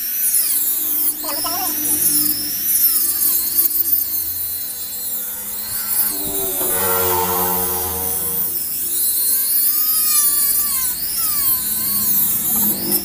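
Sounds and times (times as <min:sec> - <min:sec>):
rotary tool cutting wood: 0:00.0 - 0:13.0.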